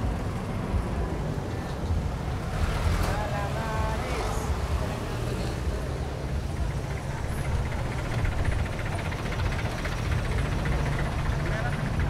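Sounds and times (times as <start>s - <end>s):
roadside traffic rumble: 0.0s - 12.0s.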